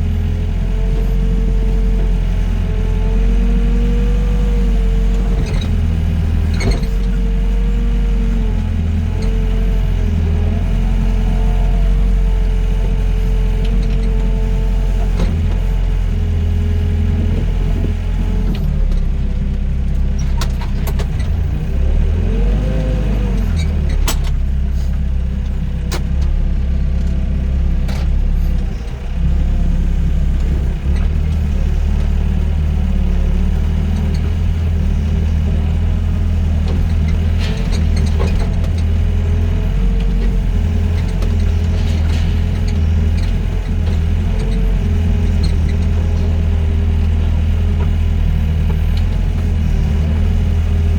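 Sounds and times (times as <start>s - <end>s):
excavator diesel engine whining: 0.0s - 50.9s.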